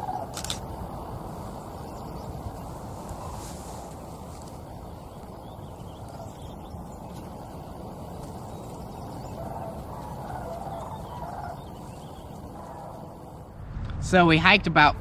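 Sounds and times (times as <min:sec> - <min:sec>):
cranes calling in flight: 0:00.0 - 0:00.8, 0:01.7 - 0:13.4
steady low rumble: 0:00.4 - 0:15.0.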